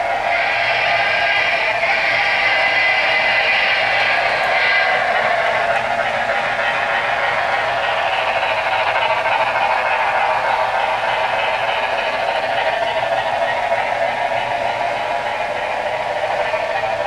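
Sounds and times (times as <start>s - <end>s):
model train wheels clattering: 0.0s - 17.0s.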